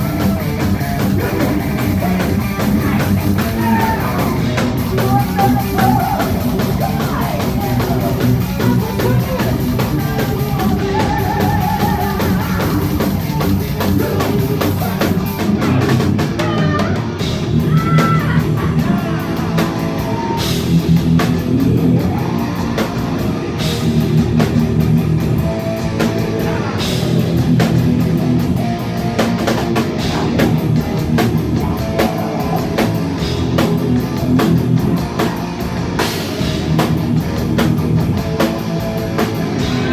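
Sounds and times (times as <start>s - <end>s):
distorted electric guitars: 0.0s - 39.9s
pounding drum kit: 0.0s - 39.9s.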